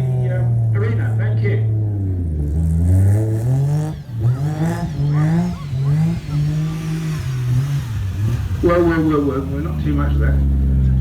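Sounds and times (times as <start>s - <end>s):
turbo racing engine revving: 0.0s - 11.0s.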